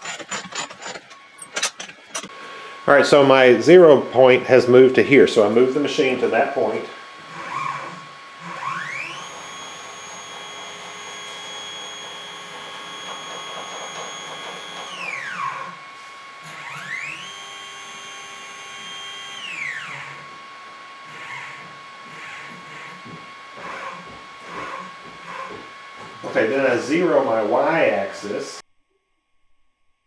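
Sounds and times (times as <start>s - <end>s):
motor whine rising and falling: 0.0s - 28.6s.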